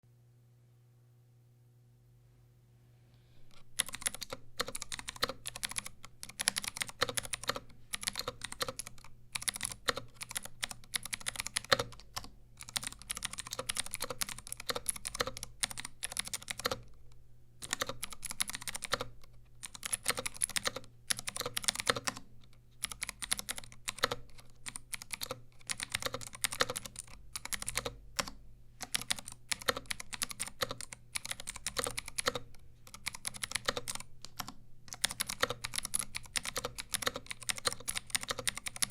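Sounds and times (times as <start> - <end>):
clicky mechanical keyboard typing: 3.5 - 38.9.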